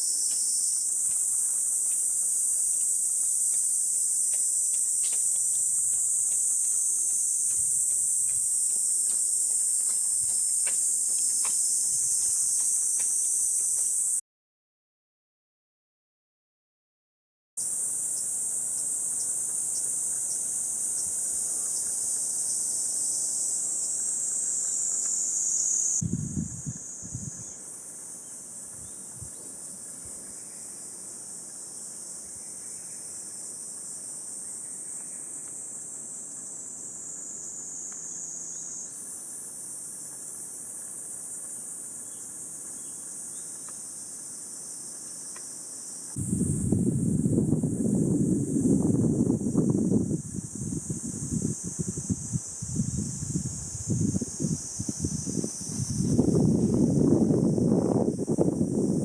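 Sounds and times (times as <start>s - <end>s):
cicadas buzzing chorus: 0.0s - 14.2s, 17.6s - 59.0s.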